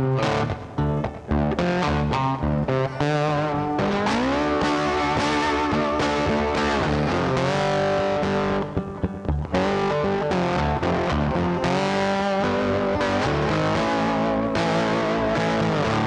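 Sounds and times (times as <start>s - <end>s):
guitar-led instrumental music: 0.0s - 16.0s.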